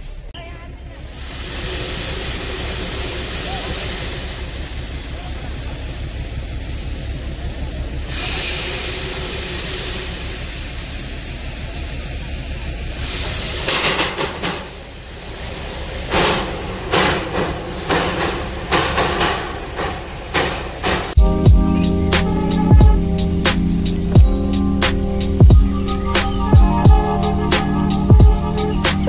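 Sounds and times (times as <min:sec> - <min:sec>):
steam hissing: 0:00.0 - 0:29.0
steam locomotive exhaust chuffs: 0:00.0 - 0:29.0.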